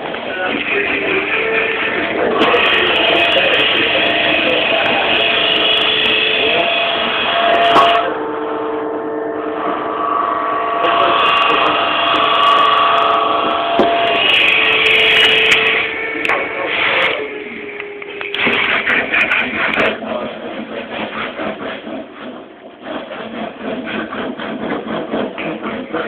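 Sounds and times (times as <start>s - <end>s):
power tool whining cutting wood: 0.0s - 26.0s.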